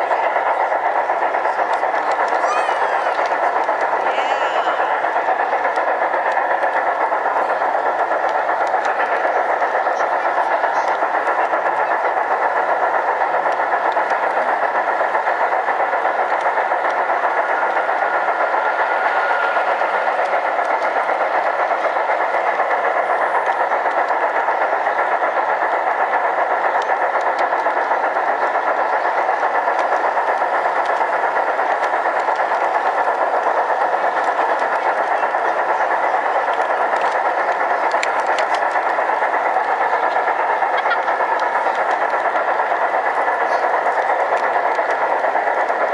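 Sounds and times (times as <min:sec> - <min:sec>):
crowd chatter: 0:00.0 - 0:45.9
model train motor whirring: 0:00.0 - 0:45.9
wheels rolling on rails: 0:00.0 - 0:45.9.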